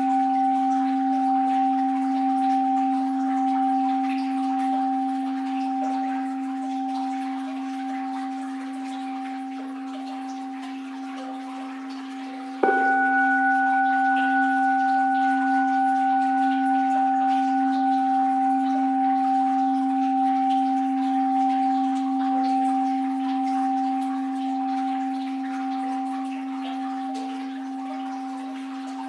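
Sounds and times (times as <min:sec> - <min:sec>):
bowl bell ringing: 0:00.0 - 0:29.0
faint flowing water: 0:00.0 - 0:29.0.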